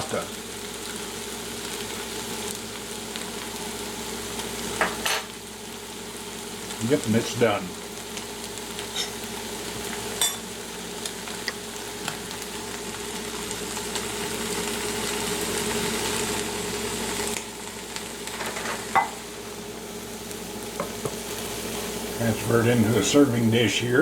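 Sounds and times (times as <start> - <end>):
food sizzling in a skillet: 0.0 - 24.0.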